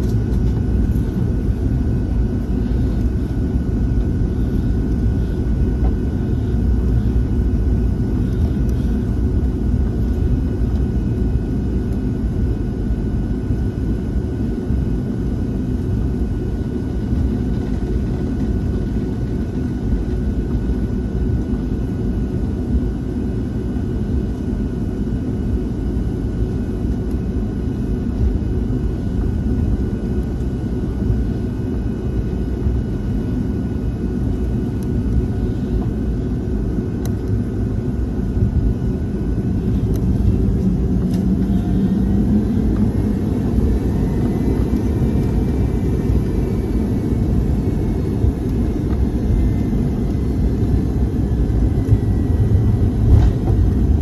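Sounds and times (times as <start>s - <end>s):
jet engine whine: 0.0s - 54.0s
jet engines rumbling: 0.0s - 54.0s.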